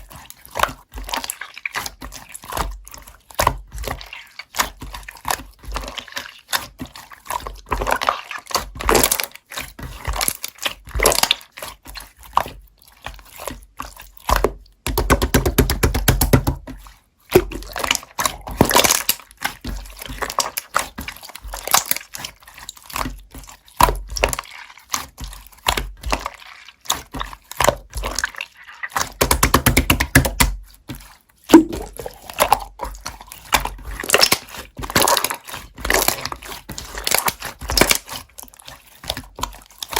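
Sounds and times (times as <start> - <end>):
hands squishing slime: 0.0 - 39.9.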